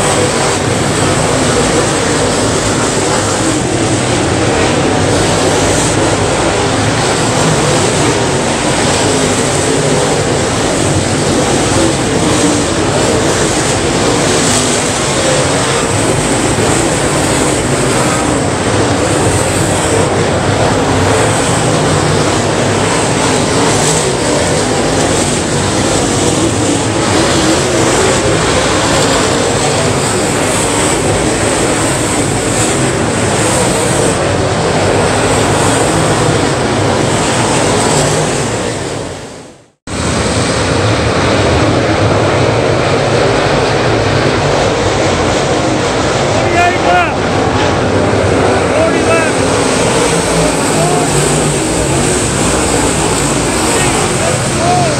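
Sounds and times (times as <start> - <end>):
race car engines droning: 0.0 - 54.9.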